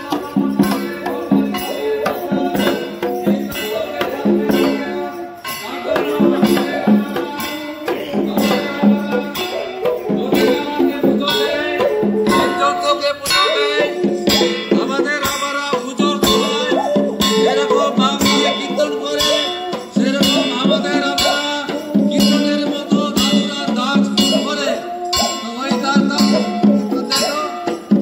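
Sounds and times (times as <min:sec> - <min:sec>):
hand-played barrel drum beat: 0:00.0 - 0:28.0
person singing melody: 0:00.0 - 0:28.0.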